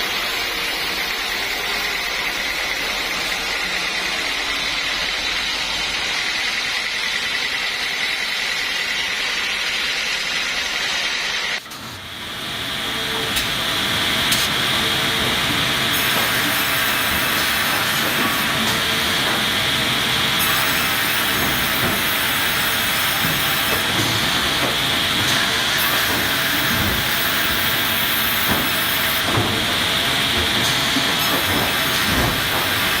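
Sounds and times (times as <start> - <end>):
machine hissing: 0.0 - 33.0.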